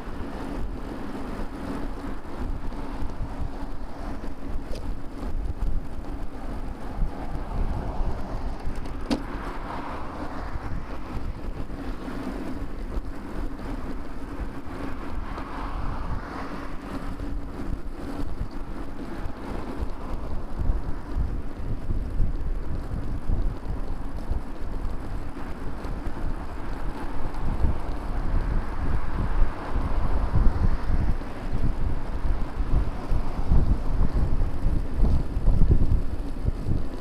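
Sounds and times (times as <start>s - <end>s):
vehicles passing: 0.0s - 37.0s
wind rumble on microphone: 0.0s - 37.0s.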